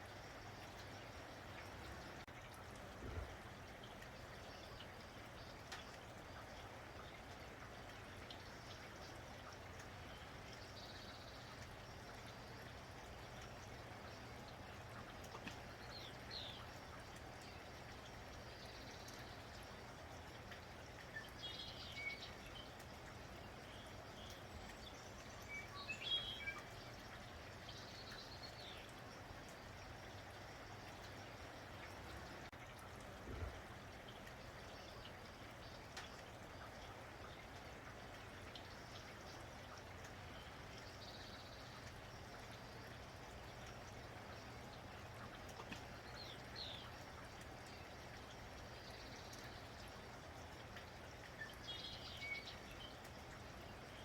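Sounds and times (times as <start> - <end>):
light rain patter: 0.0 - 54.0.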